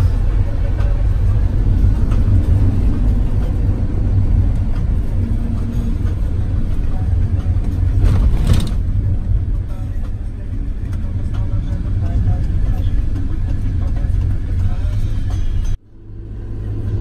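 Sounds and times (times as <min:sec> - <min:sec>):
bus road and engine rumble: 0:00.0 - 0:17.0.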